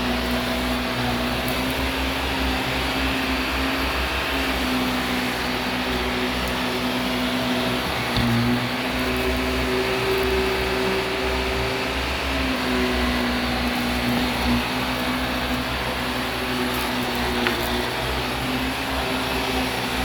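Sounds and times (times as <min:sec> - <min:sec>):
vacuum cleaner on carpet: 0:00.0 - 0:20.0.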